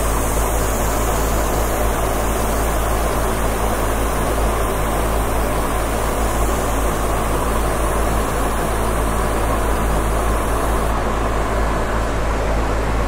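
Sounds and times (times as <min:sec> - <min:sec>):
airbrush spraying hiss: 0:00.0 - 0:11.0
exhaust fan droning: 0:00.0 - 0:13.0.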